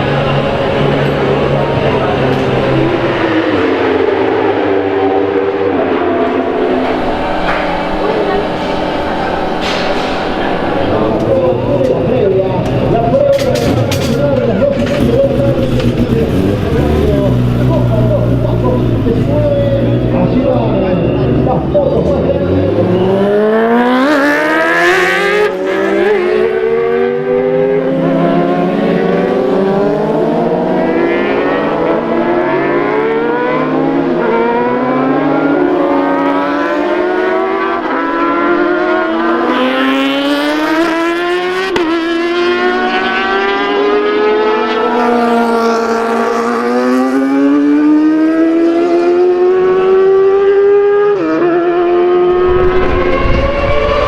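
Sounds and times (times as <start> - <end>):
racing motorcycle engines revving: 0.0 - 54.0.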